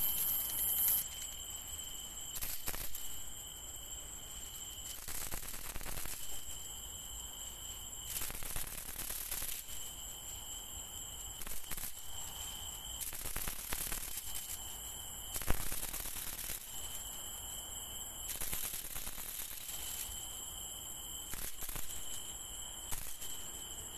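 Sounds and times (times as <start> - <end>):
high insect trill: 0.0 - 23.9.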